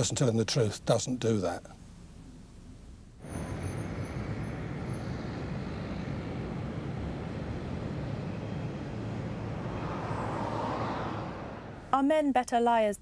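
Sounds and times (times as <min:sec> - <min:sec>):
city street traffic rumble: 0:00.0 - 0:12.3.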